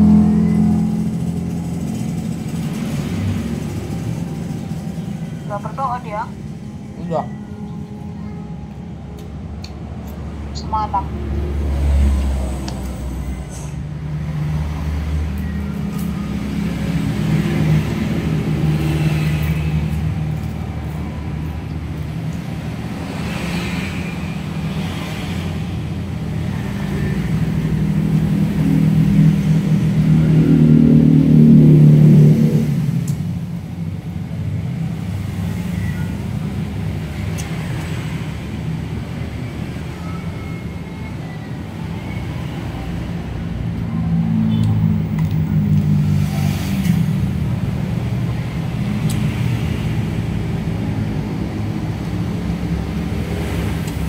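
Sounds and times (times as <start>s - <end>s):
passing vehicles rumbling: 0.0s - 54.0s.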